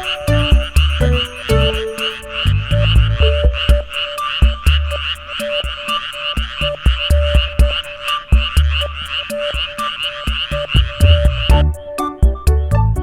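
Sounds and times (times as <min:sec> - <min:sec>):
frogs croaking: 0:00.0 - 0:11.5
music with ticking beat: 0:00.0 - 0:13.0.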